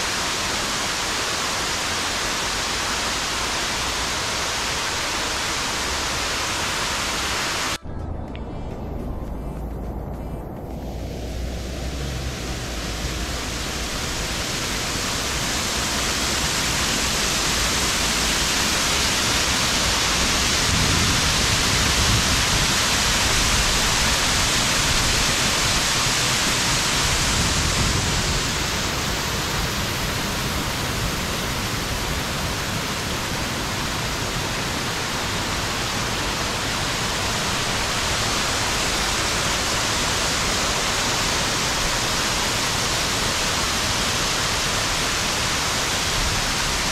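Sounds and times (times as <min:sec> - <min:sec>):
waterfall rushing: 0:00.0 - 0:07.8, 0:09.6 - 0:46.9.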